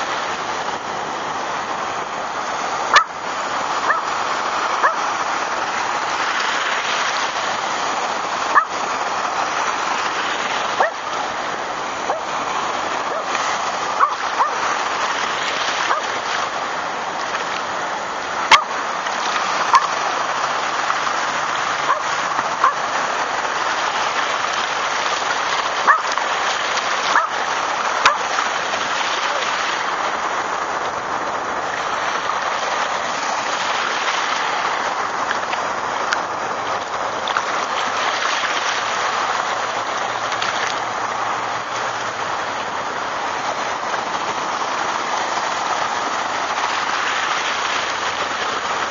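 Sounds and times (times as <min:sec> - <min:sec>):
beach surf washing in: 0:00.0 - 0:48.9
water splashing around dog: 0:00.0 - 0:48.9.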